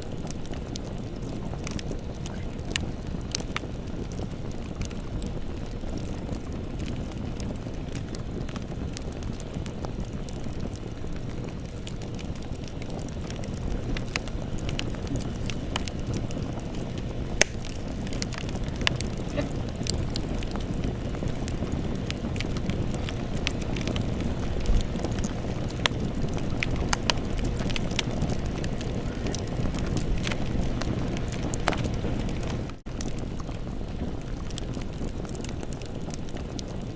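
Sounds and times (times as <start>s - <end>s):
campfire rumble: 0.0s - 36.9s
fire crackles and pops: 0.0s - 36.9s.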